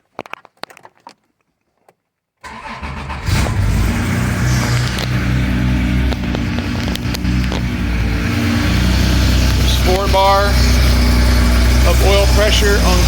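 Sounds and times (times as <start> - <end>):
car engine running: 2.5 - 13.0
starter cranking: 2.5 - 13.0.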